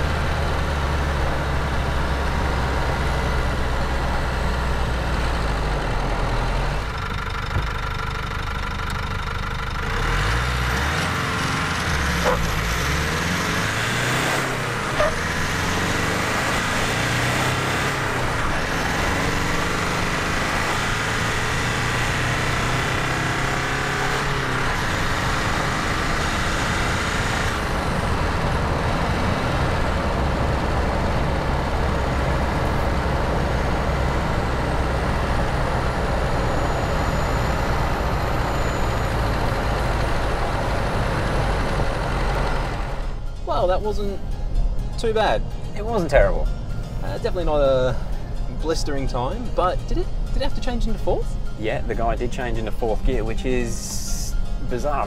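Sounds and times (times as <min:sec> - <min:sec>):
diesel engine accelerating: 0:00.0 - 0:55.0
road and tyre noise: 0:00.0 - 0:55.0.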